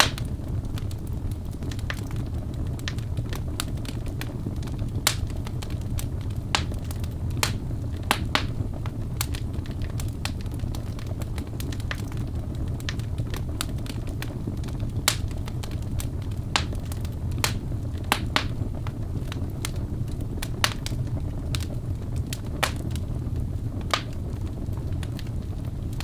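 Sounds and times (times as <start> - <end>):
logs crackling and popping: 0.0 - 26.0
low rumble of flames: 0.0 - 26.0.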